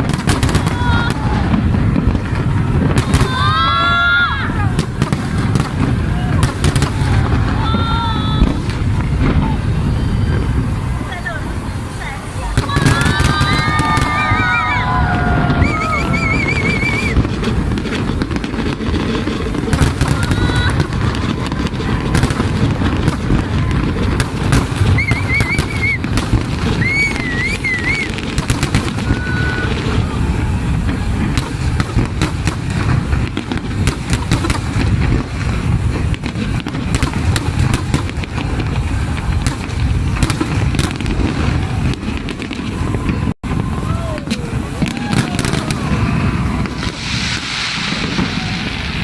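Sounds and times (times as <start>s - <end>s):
firework whistles: 0.0s - 49.0s.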